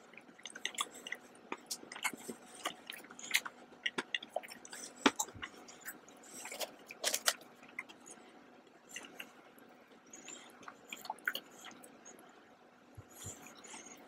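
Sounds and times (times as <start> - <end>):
chewing with wet clicks and smacks: 0.0 - 12.3, 12.9 - 14.0.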